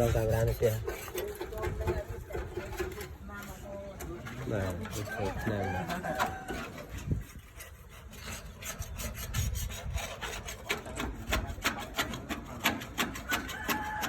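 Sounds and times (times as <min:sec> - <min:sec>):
short scraping strokes: 0:00.0 - 0:14.0.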